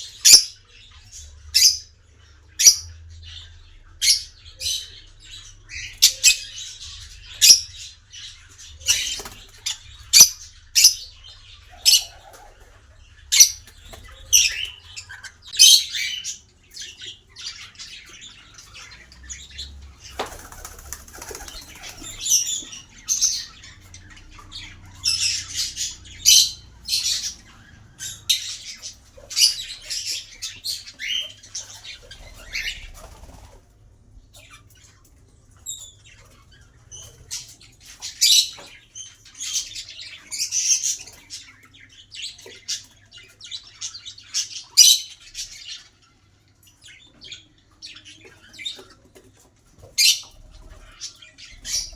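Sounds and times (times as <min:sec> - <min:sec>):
parrots chirping and squawking: 0:00.0 - 0:51.9.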